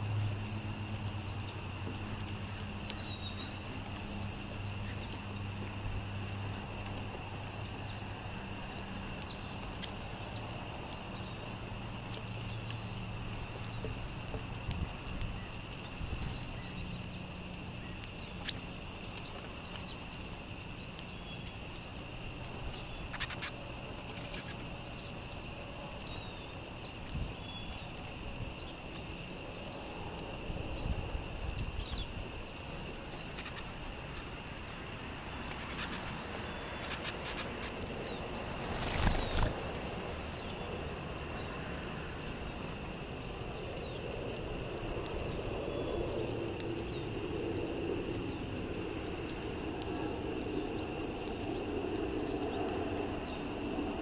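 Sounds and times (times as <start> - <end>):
sparrows chirping: 0.0 - 54.0.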